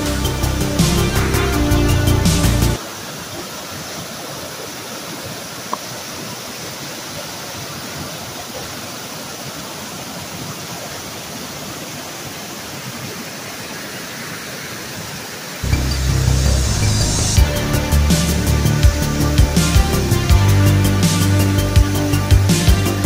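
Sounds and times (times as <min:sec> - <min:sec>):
creek water rushing over rocks: 0:00.0 - 0:23.0.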